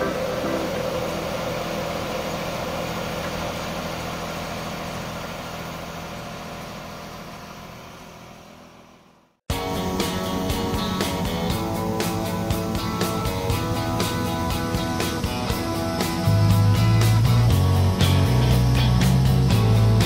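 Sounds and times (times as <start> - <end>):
crane diesel engine running: 0.0 - 20.0.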